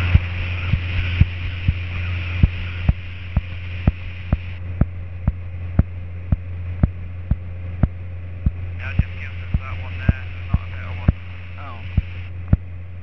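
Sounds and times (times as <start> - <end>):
airplane engine droning: 0.0 - 13.0.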